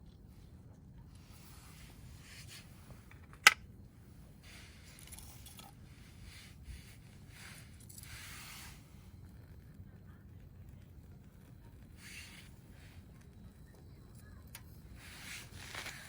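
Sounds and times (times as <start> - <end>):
wood fire hissing and crackling: 0.0 - 16.0.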